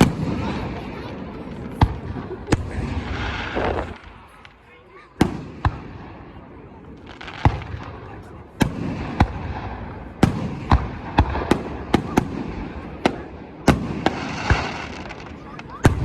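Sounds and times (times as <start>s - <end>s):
crowd noise: 0.0s - 16.0s
fireworks crackle: 0.0s - 16.0s.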